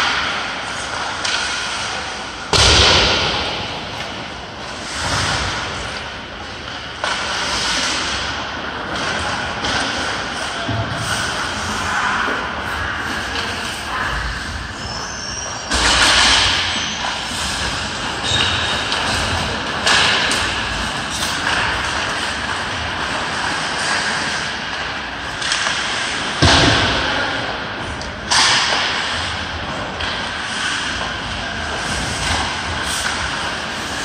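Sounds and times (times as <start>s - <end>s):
sticks and puck banging: 0.0s - 34.0s
skate blades scraping on ice: 4.0s - 26.3s, 28.4s - 34.0s.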